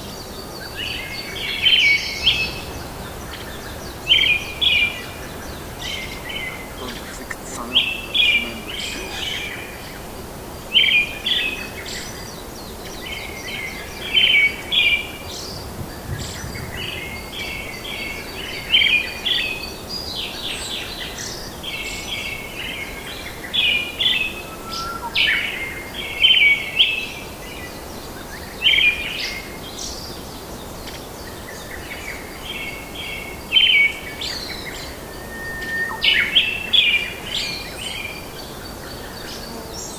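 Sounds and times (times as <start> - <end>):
songbird chirping: 0.0 - 39.9
steady background hiss: 0.0 - 39.9.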